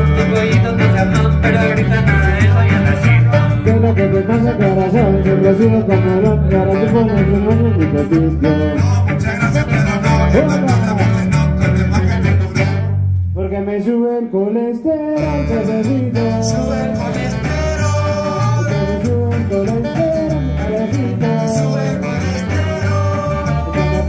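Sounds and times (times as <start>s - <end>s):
electric guitar: 0.0s - 13.9s, 14.6s - 24.0s
electric bass: 0.0s - 24.0s
person singing: 0.0s - 24.0s.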